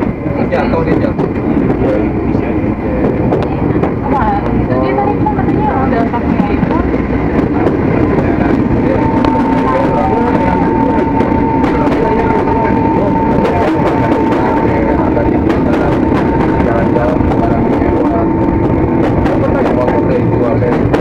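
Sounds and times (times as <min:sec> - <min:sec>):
electric train running: 0:00.0 - 0:21.0
high whine: 0:00.0 - 0:21.0
train passing close: 0:00.0 - 0:21.0.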